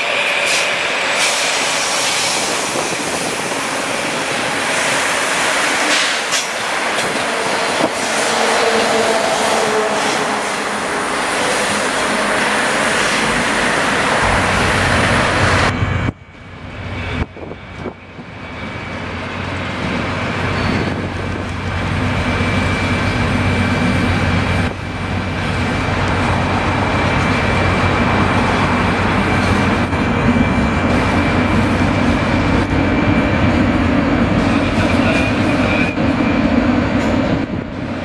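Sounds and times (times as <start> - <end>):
slow train rumbling: 0.0 - 38.0
train passing on rails: 0.0 - 38.0.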